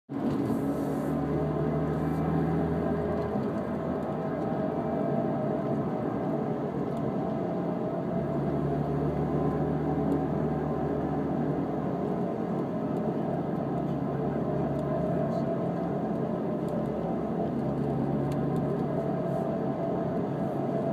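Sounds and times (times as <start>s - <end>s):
car engine running: 0.1s - 20.9s.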